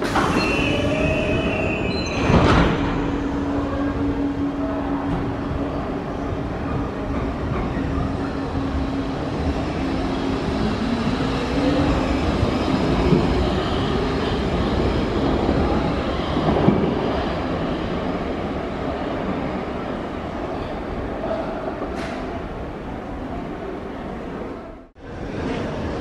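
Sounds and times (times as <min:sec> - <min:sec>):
rumble of wheels on rail: 0:00.0 - 0:26.0.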